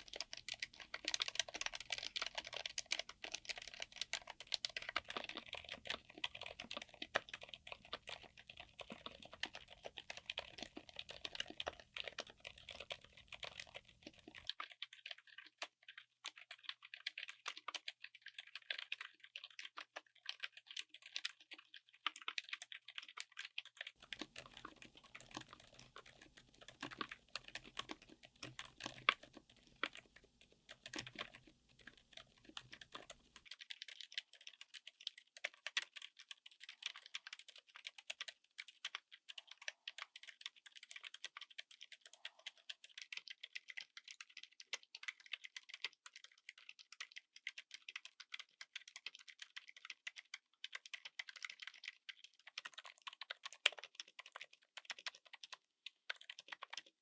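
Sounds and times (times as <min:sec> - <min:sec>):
soft keyboard typing: 0:00.0 - 0:57.0.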